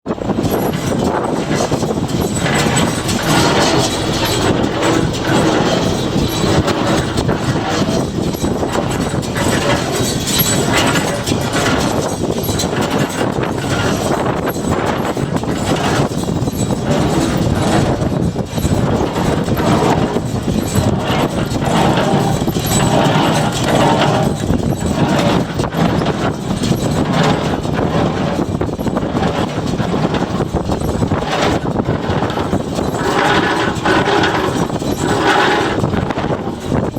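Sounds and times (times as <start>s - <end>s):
baler mechanism clattering: 0.1s - 36.9s
tractor engine: 0.2s - 36.9s.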